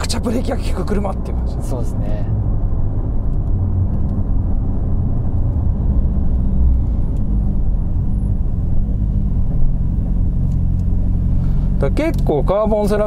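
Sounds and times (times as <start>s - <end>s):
car engine low drone: 0.0s - 13.0s
road rumble: 0.0s - 13.0s.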